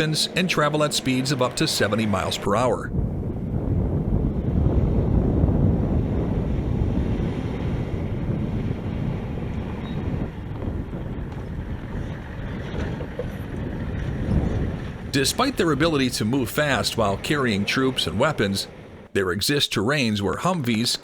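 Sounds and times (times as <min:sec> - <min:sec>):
wind buffeting microphone: 0:00.0 - 0:19.1
low rumble: 0:01.8 - 0:19.1.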